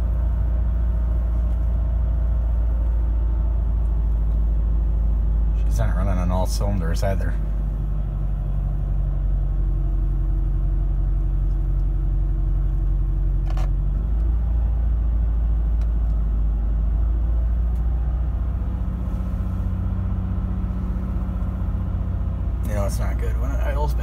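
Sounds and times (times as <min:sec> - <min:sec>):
car engine idling and misfiring: 0:00.0 - 0:24.0.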